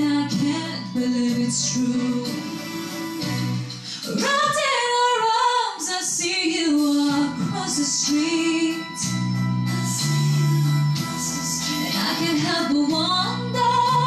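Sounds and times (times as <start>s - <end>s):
woman singing: 0.0s - 9.2s, 11.0s - 14.0s
instrumental backing music: 0.0s - 14.0s.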